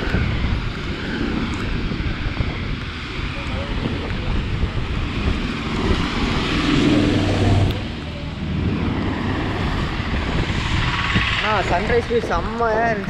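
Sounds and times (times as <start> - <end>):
vehicle engine hum: 0.0 - 13.0
wind noise on microphone: 0.0 - 13.0.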